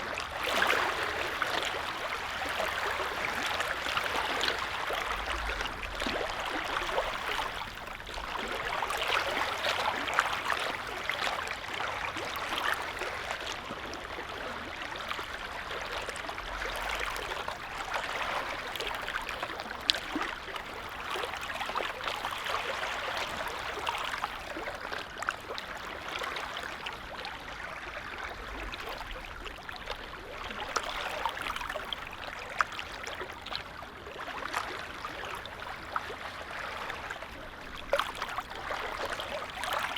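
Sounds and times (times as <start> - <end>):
lake waves lapping: 0.0 - 39.9.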